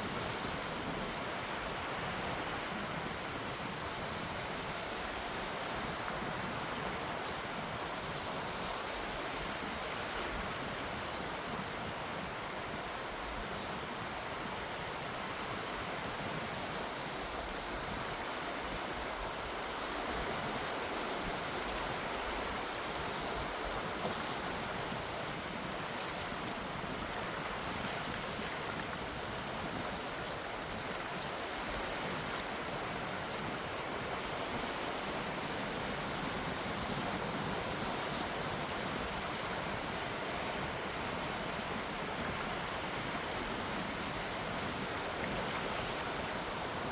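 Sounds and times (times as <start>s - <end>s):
sea waves washing: 0.0s - 46.9s.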